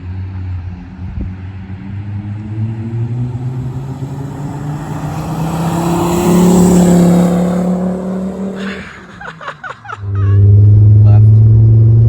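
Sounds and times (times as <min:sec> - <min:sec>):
car engine accelerating past: 0:00.3 - 0:12.0.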